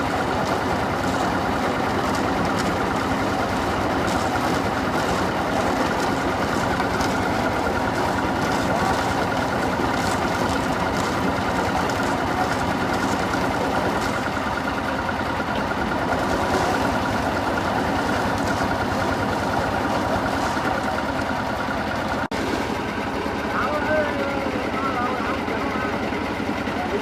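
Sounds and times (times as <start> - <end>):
construction machinery engine drone: 0.0 - 27.0.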